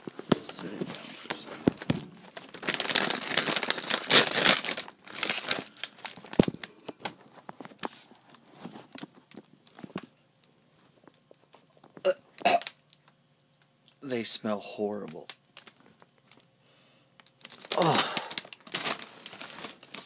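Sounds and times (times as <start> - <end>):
plastic chip bag crinkling: 0.0 - 13.6, 14.7 - 16.5, 17.2 - 20.0.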